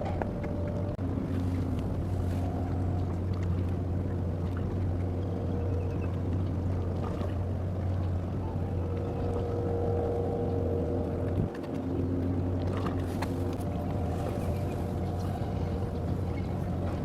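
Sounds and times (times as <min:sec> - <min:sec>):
boat engines droning: 0:00.0 - 0:17.0
faint steady tones: 0:00.0 - 0:17.0.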